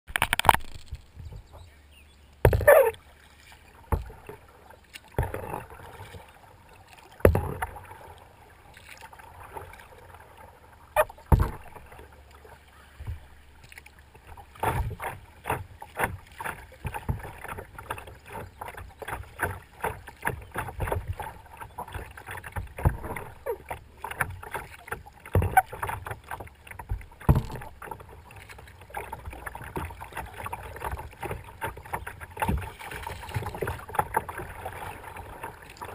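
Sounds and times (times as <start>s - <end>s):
paddle strokes splashing: 0.1s - 35.9s
water slapping against hull: 2.3s - 35.9s.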